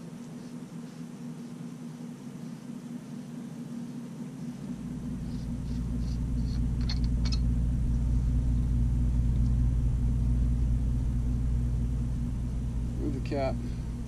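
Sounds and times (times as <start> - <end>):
motor rumble with hum: 0.0 - 14.0.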